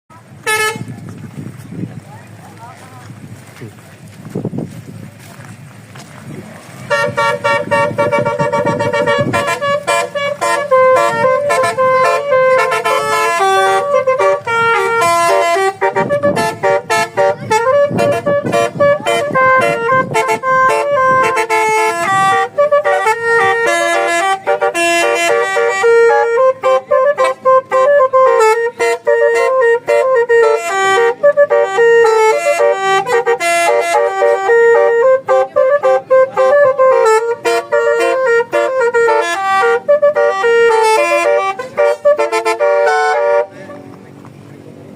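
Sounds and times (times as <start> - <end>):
multi-tone vehicle horn tune: 0.2 - 1.0, 6.8 - 43.9.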